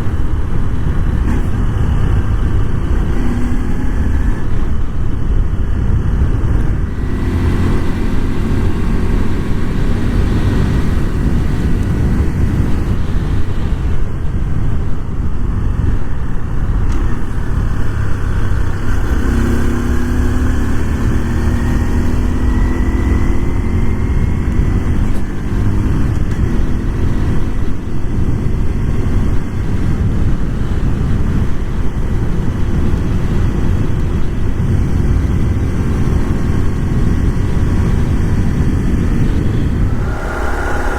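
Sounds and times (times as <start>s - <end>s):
rising engine whine: 0.0s - 14.5s, 15.5s - 28.9s, 34.6s - 40.9s
motorcycle engine rumbling: 0.0s - 40.9s.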